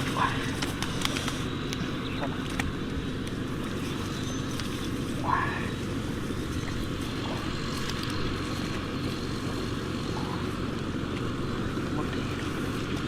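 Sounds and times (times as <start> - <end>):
small engine droning: 0.0 - 13.0.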